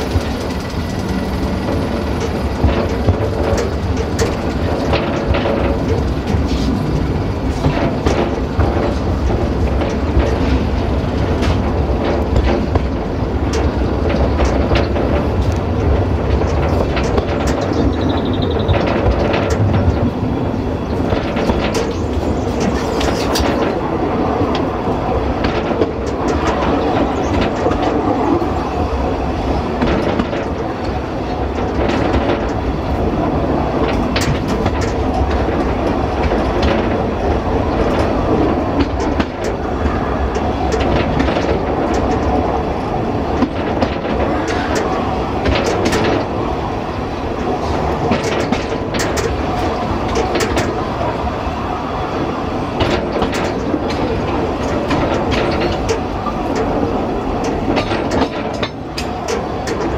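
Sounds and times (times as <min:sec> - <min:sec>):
train rumbling on track: 0:00.0 - 0:59.9
wheels clicking over rail joints: 0:00.0 - 0:59.9.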